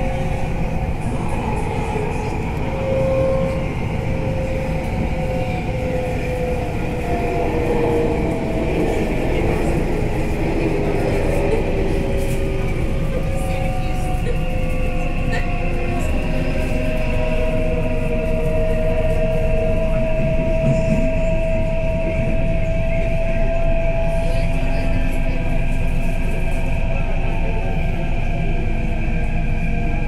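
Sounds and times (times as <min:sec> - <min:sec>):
train rumbling inside carriage: 0:00.0 - 0:30.0.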